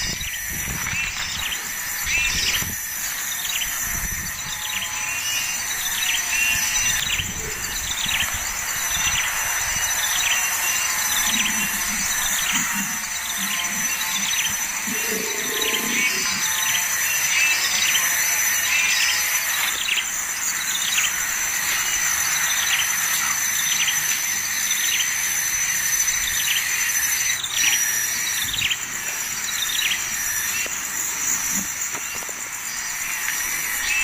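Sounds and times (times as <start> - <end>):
high insect trill: 0.0 - 34.0.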